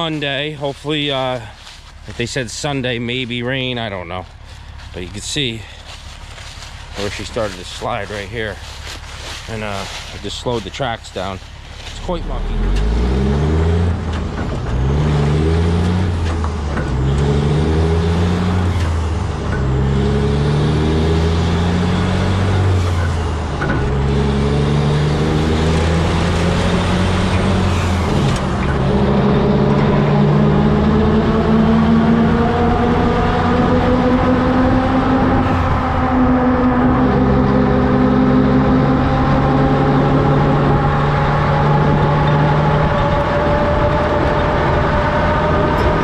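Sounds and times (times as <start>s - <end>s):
truck diesel engine shifting gears: 0.0s - 46.0s.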